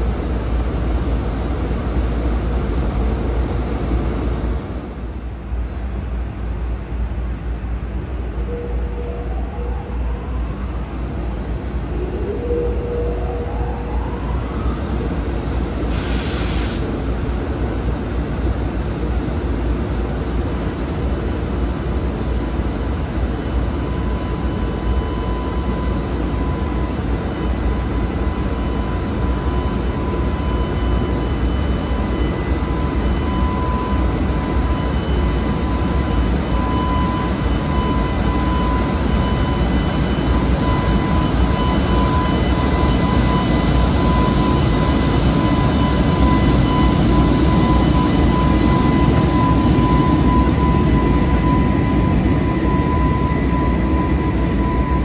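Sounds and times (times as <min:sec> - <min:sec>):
steady high whine: 0:00.0 - 0:55.0.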